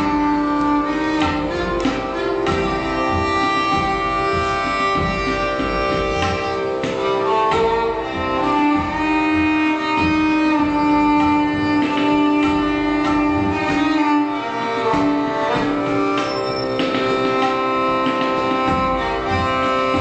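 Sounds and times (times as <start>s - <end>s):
tabla strokes: 0.0s - 20.0s
violin melody: 0.0s - 20.0s.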